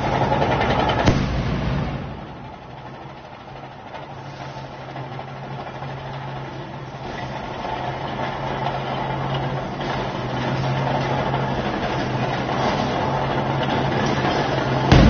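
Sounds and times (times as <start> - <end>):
bulldozer engine running: 0.0 - 15.0.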